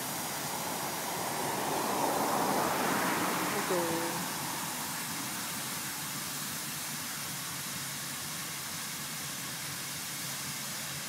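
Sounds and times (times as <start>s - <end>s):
faint low engine hum: 0.0s - 11.0s
sweeper hiss: 0.0s - 11.0s.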